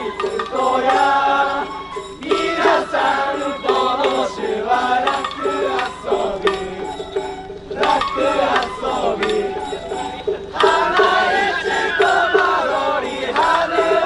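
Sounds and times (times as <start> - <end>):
voices singing together: 0.0 - 14.0.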